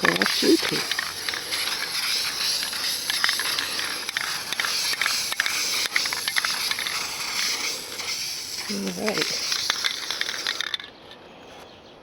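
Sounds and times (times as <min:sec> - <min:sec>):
aerosol spray can hissing: 0:00.0 - 0:10.8
small clicks and ticks: 0:00.0 - 0:11.0.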